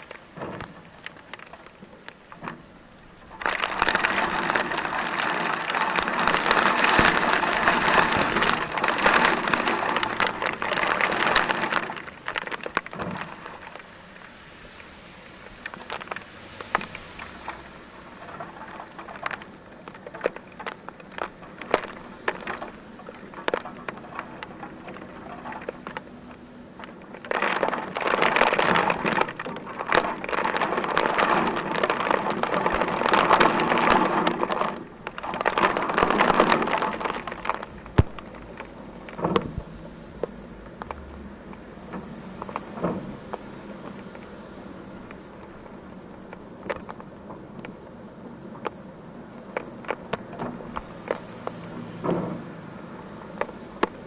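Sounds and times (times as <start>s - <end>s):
dense rain hiss: 0.0s - 54.0s
rain drops pattering: 0.0s - 54.0s.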